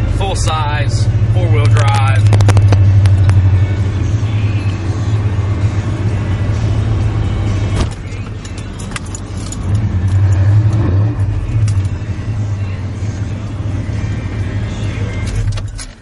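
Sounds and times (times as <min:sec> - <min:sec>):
pickup engine and road noise: 0:00.0 - 0:16.0.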